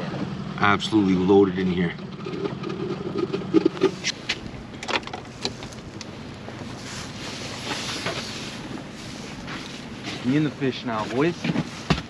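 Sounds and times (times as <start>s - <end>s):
wind: 0.0s - 12.0s
water noise: 1.7s - 11.9s.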